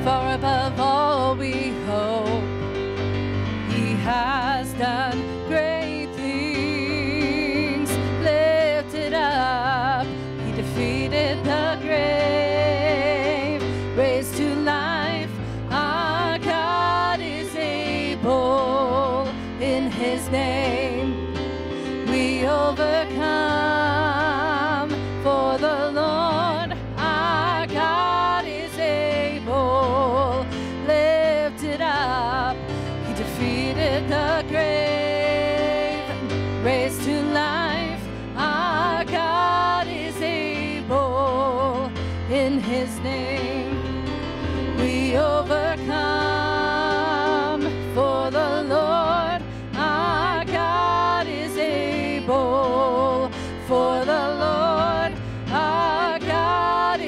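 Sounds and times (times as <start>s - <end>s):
woman singing: 0.0s - 2.5s, 3.7s - 21.2s, 21.9s - 44.0s, 44.6s - 57.0s
instrumental backing: 0.0s - 57.0s.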